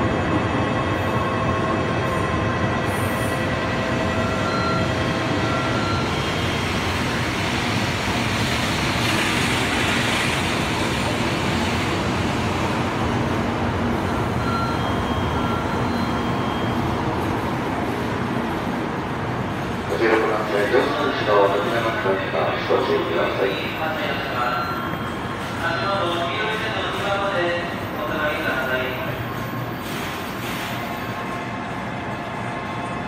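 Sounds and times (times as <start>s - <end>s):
train rolling slowly: 0.0s - 33.0s.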